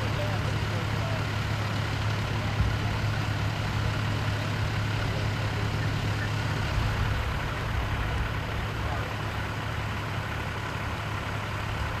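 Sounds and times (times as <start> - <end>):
large vehicle engine idling: 0.0 - 12.0.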